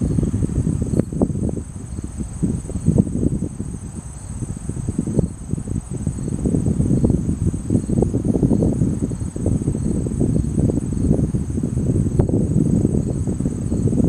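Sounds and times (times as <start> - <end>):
uneven low rumble: 0.0 - 13.9
crickets trilling: 0.0 - 14.0.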